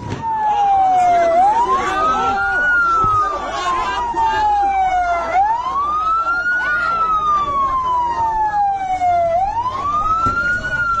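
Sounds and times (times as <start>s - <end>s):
ambulance siren wailing: 0.0s - 11.0s
faint voices: 0.0s - 11.0s.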